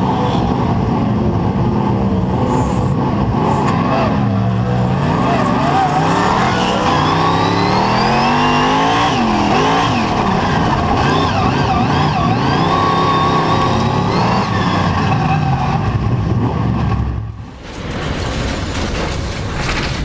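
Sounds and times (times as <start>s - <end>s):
race car engine revving: 0.0s - 17.5s
nearby race cars: 0.0s - 20.0s.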